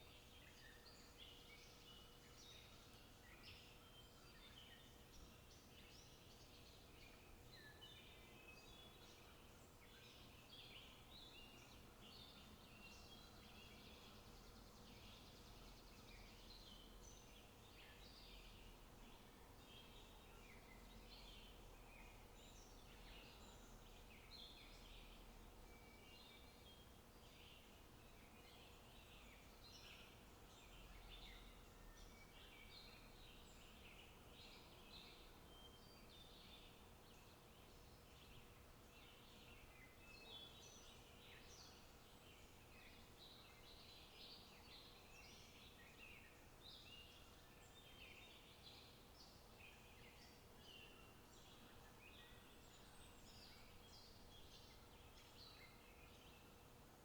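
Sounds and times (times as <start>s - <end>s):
faint open-country ambience: 0.0s - 57.0s
small birds chirping: 0.0s - 57.0s.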